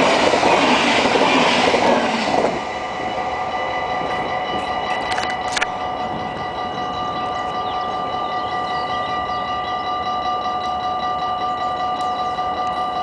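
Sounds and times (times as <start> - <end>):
crossing warning bell ringing: 0.0 - 13.0
train wheels rushing on rails: 0.0 - 13.0.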